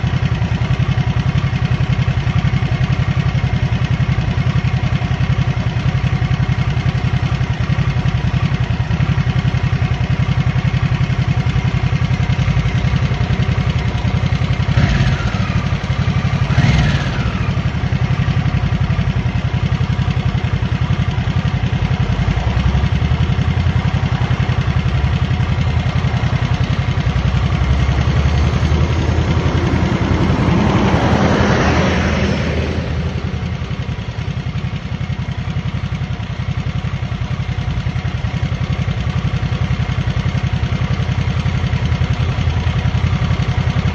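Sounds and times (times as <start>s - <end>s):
motorcycle engine rumble: 0.0s - 43.9s.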